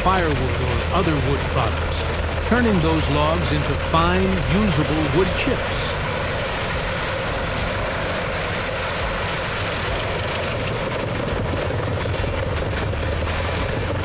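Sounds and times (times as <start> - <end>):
wood chipper running: 0.0 - 14.0.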